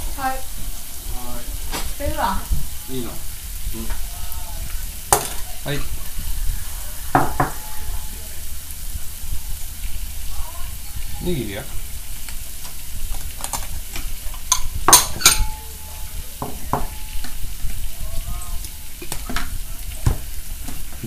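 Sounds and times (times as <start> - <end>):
food sizzling on a hot plate: 0.0 - 21.0.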